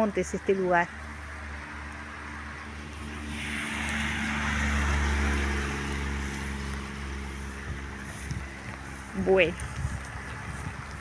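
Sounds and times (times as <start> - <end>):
vehicle passing on wet road: 0.9 - 11.0.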